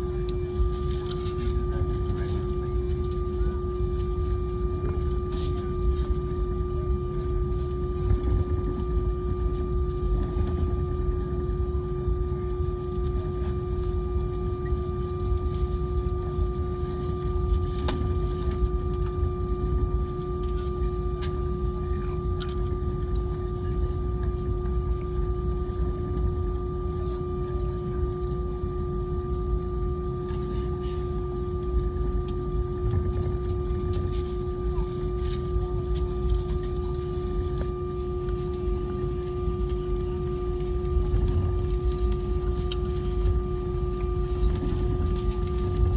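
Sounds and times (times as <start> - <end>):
airliner cabin rumble with whine: 0.0 - 45.9.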